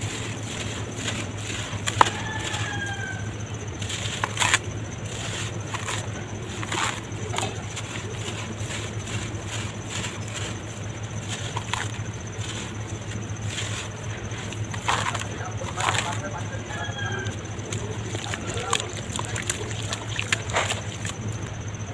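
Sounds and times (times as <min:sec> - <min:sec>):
dirt crumbling in water: 0:00.0 - 0:21.6
steady low hum: 0:00.0 - 0:21.9.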